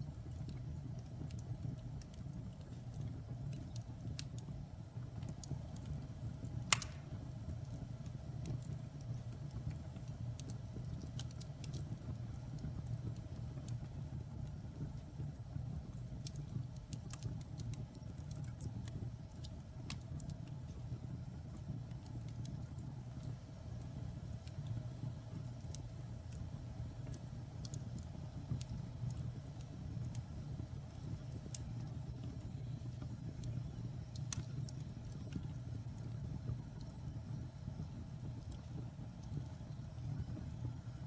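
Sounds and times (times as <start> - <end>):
logs crackling and popping: 0.1 - 37.4.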